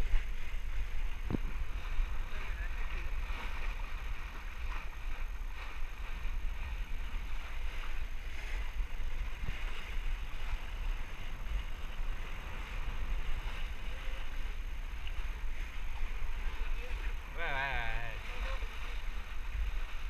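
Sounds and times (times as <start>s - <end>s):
water rushing along boat hull: 0.0s - 20.0s
wind rumbling on microphone: 0.0s - 20.0s.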